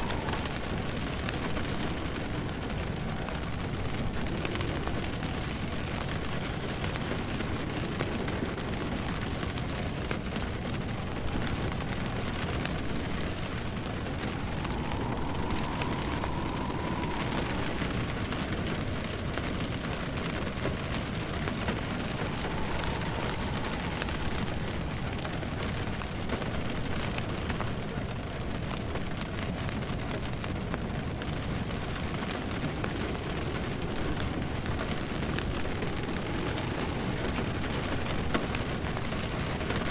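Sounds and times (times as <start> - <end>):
faint wind whistling: 0.0 - 39.9
steady rain: 0.0 - 39.9
wood fire crackling: 0.0 - 39.9.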